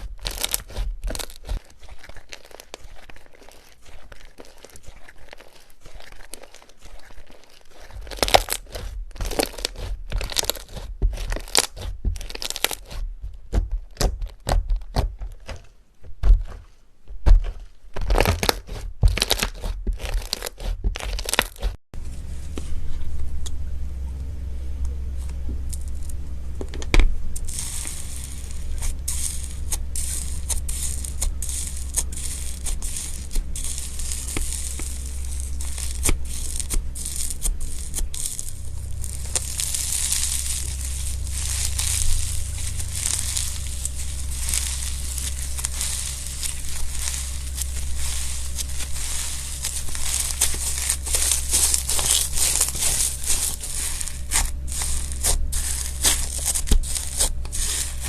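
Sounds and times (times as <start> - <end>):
slime crackling and tearing: 0.0 - 21.8, 26.8 - 58.0.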